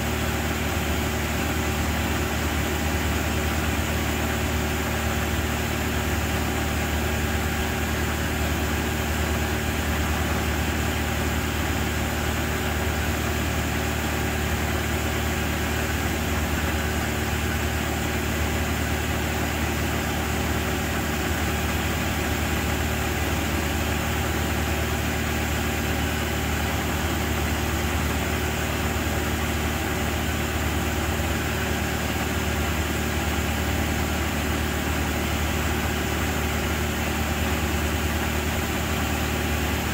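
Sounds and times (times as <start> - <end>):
boom lift engine running: 0.0 - 39.9.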